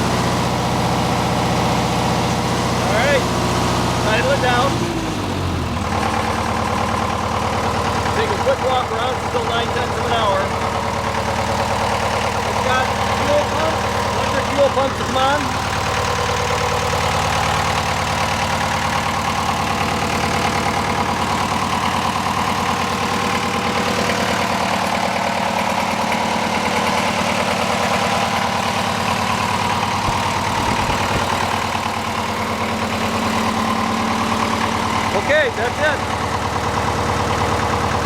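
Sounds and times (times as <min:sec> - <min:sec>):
diesel generator idling: 0:00.0 - 0:38.0.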